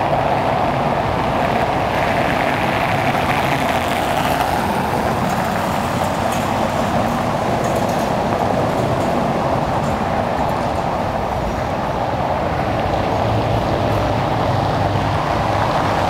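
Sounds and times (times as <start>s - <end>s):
cars driving on wet cobblestones: 0.0s - 16.0s
tram approaching on rails: 0.0s - 16.0s.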